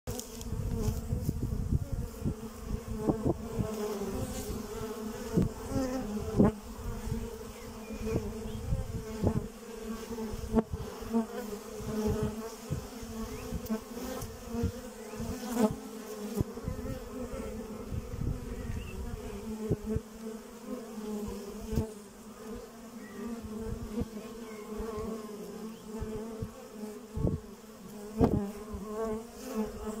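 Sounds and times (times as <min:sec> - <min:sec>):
bees buzzing: 0:00.1 - 0:30.0.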